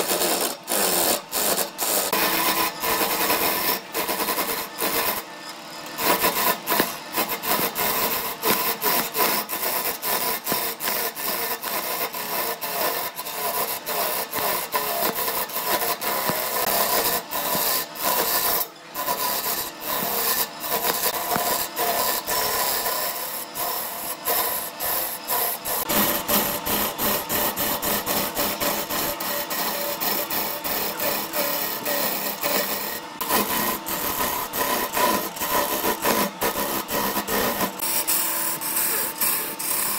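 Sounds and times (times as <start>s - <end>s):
chisel scraping spinning wood: 0.0s - 39.9s.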